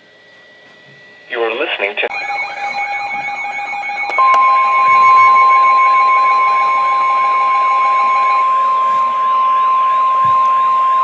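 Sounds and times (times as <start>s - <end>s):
loud steady warning tone: 0.3s - 11.0s
electronic alarm tone with warble: 2.1s - 11.0s.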